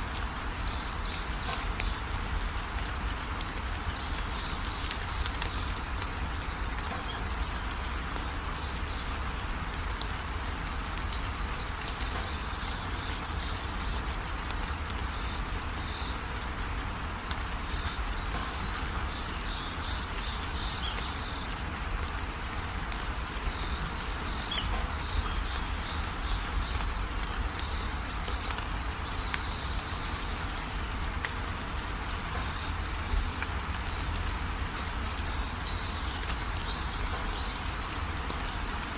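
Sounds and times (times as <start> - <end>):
rain hiss: 0.0 - 38.9
songbird chirping: 0.0 - 38.9.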